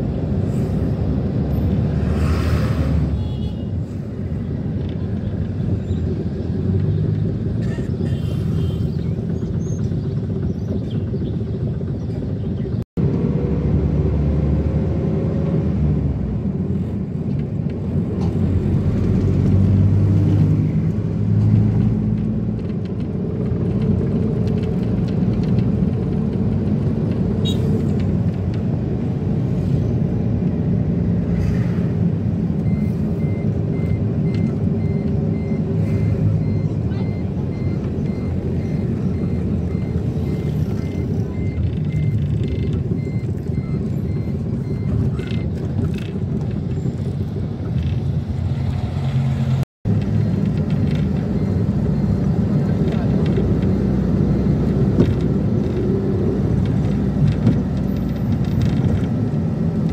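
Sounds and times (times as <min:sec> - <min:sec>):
engine and road rumble: 0:00.0 - 0:59.9.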